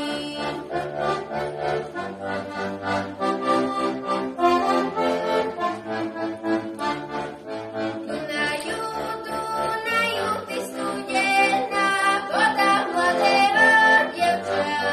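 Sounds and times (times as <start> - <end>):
solo accordion folk tune: 0.0 - 14.9.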